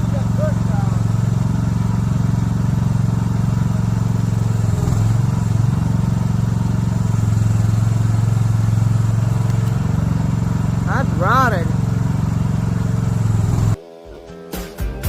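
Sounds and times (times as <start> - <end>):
small excavator engine running: 0.0 - 15.0.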